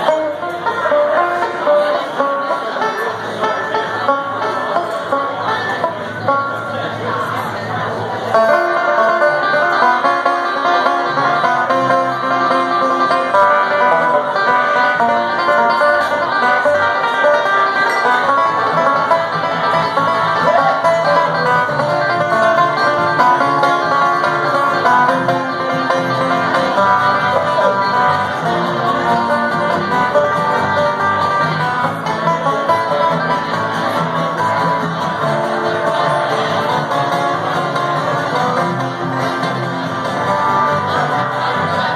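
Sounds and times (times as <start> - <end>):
bluegrass band playing: 0.0 - 41.9.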